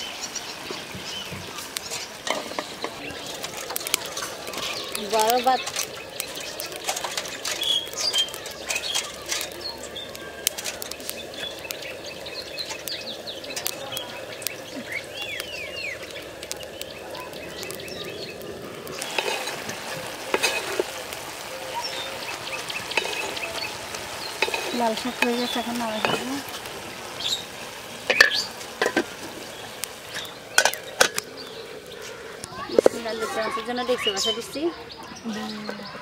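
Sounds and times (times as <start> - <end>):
small birds chirping: 0.0 - 36.0
wood fire crackling: 0.0 - 36.0.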